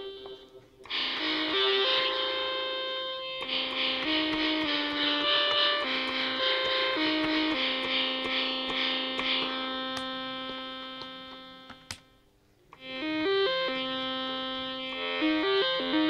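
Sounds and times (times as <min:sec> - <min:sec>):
synthesizer notes: 0:00.0 - 0:12.1, 0:12.8 - 0:16.0.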